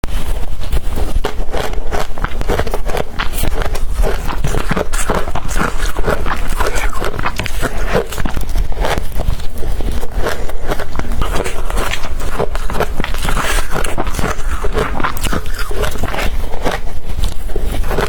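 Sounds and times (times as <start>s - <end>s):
crushed ice being chewed: 0.1s - 18.0s.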